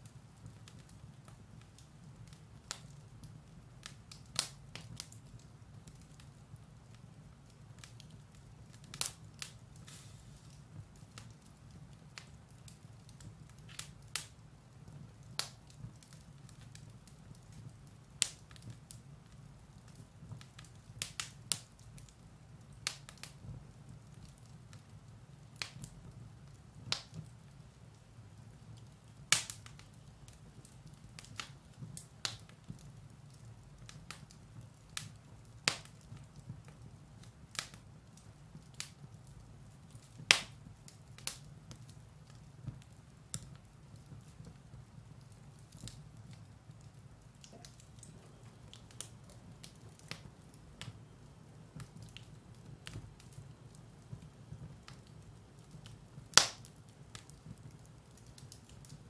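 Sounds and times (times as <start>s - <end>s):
firewood crackling and popping: 0.0s - 59.0s
low rumble of fire: 0.0s - 59.0s.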